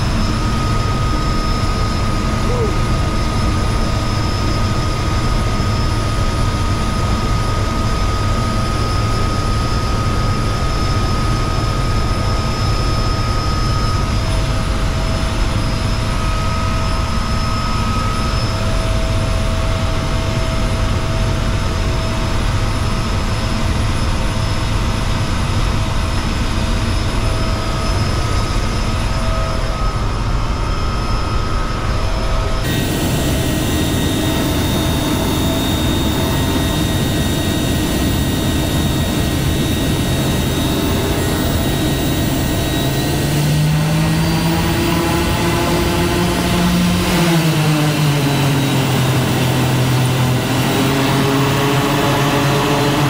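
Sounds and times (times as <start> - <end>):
propeller engine rumble: 0.0 - 53.0.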